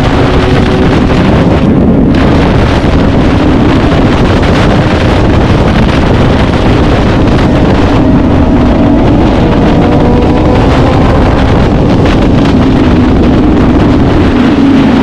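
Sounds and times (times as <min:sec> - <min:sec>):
motorcycle engine at speed: 0:00.0 - 0:15.0
wind buffeting on microphone: 0:00.0 - 0:15.0.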